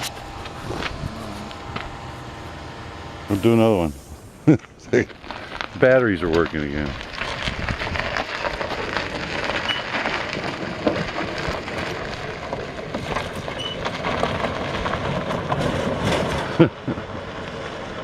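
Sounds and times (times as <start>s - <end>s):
golf cart crackling and rattling: 0.0s - 18.0s.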